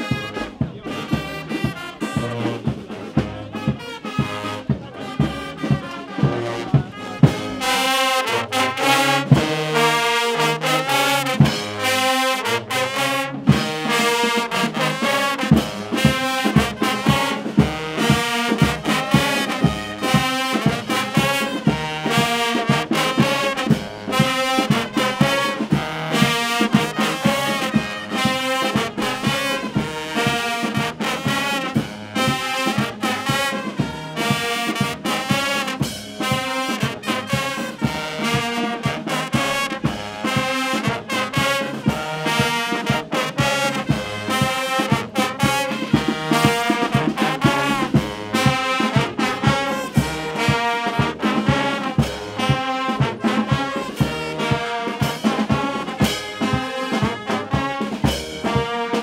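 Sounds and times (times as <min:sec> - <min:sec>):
brass band playing: 0:00.0 - 0:59.0.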